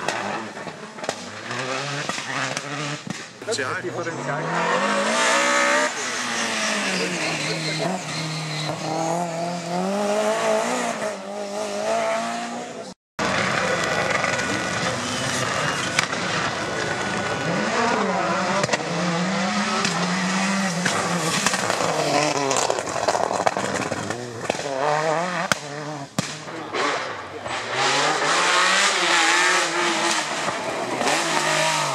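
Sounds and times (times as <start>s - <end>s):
rally car engines revving: 0.0s - 31.9s.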